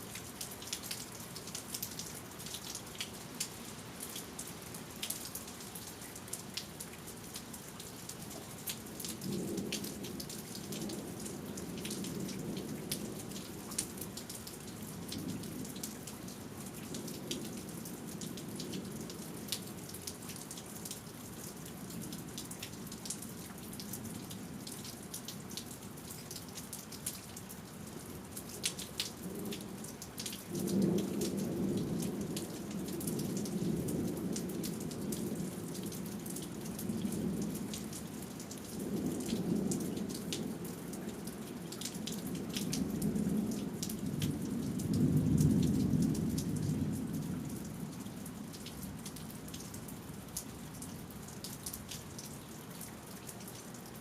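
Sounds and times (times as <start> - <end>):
raindrops ticking on surfaces: 0.0 - 54.0
steady rain: 0.0 - 54.0.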